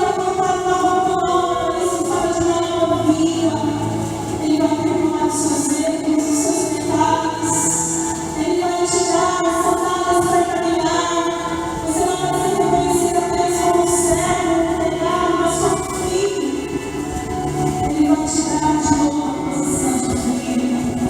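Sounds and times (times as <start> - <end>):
church choir singing: 0.0 - 21.0.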